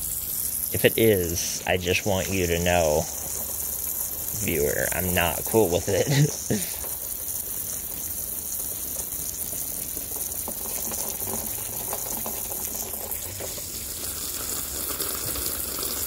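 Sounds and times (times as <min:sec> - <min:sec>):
garden hose spraying water: 0:00.0 - 0:16.0.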